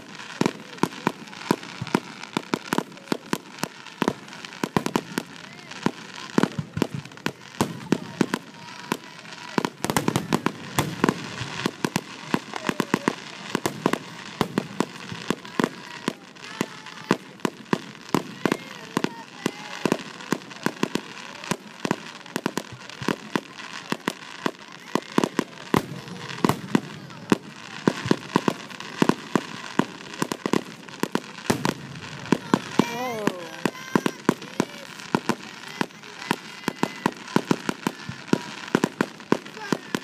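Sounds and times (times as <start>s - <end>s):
fireworks bangs and pops: 0.0s - 40.0s.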